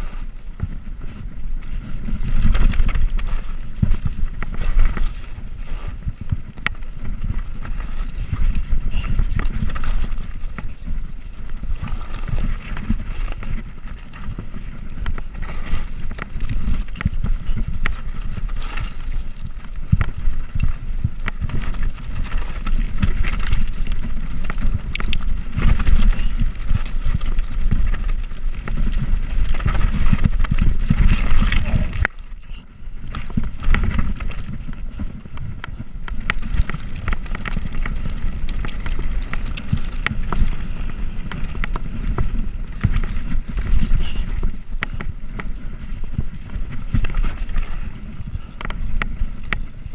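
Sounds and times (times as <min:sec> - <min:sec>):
bicycle rumbling and rattling: 0:00.0 - 0:49.9
wind buffeting microphone: 0:00.0 - 0:49.9.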